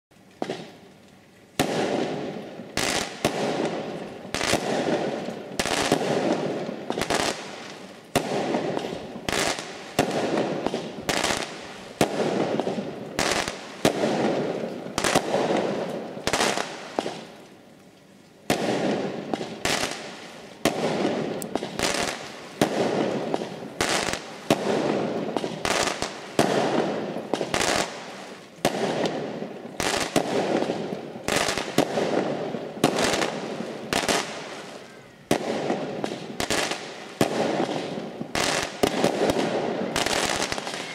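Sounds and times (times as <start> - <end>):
fireworks bursting with bangs: 0.4 - 17.6, 18.4 - 40.9.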